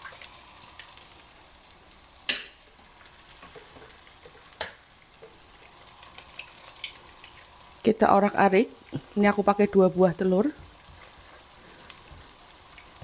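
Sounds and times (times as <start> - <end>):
eggs frying in oil: 0.0 - 13.0.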